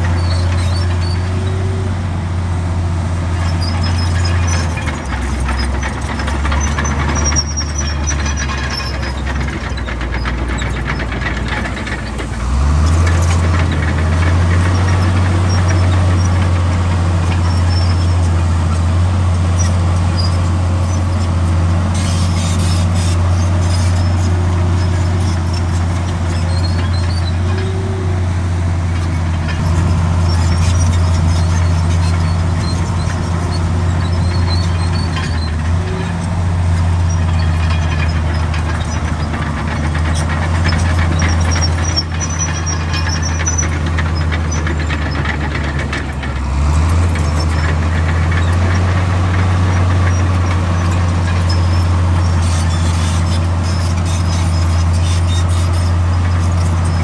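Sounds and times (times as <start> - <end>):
heavy diesel machinery engine drone: 0.0 - 57.0
faint high squeaks: 0.1 - 1.8, 3.3 - 11.2, 19.5 - 28.3, 29.0 - 45.7, 46.6 - 57.0.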